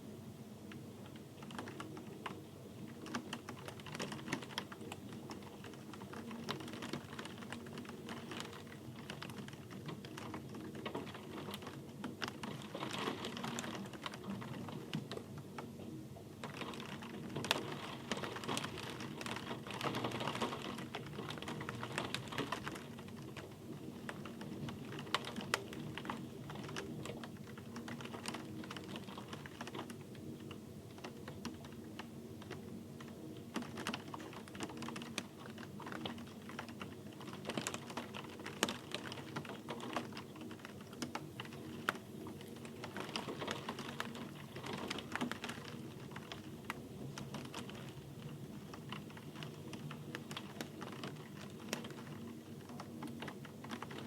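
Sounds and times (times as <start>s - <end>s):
rain falling: 0.7s - 15.7s, 16.3s - 54.0s.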